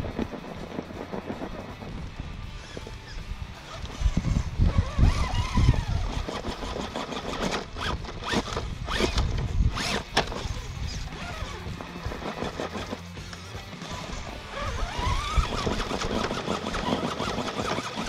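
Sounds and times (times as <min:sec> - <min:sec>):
toy truck electric motor whining: 0:02.5 - 0:18.0.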